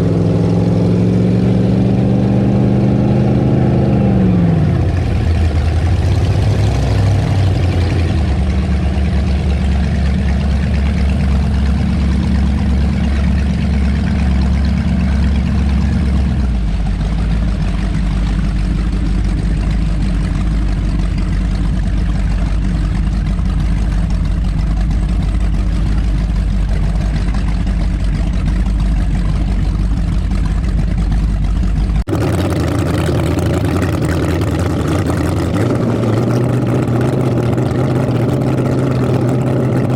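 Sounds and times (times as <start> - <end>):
powerboat engines idling low: 0.0 - 39.9.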